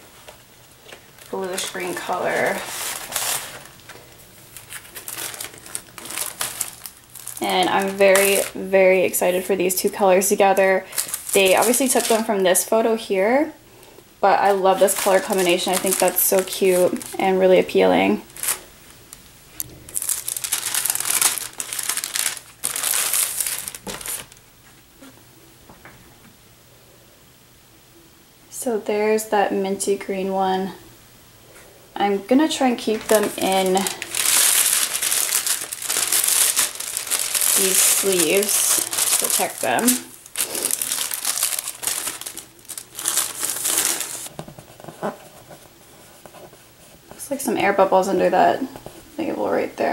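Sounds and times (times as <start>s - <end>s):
plastic sleeve crinkling: 0.0s - 13.5s, 14.2s - 25.1s, 32.2s - 49.2s.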